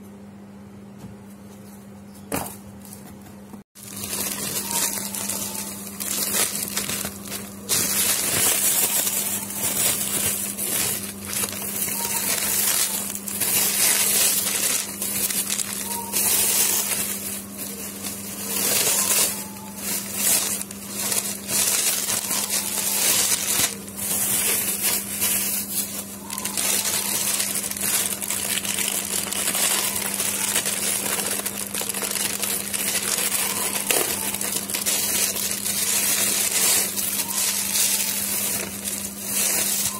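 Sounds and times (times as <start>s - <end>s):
plastic packaging crinkling: 3.8s - 39.9s.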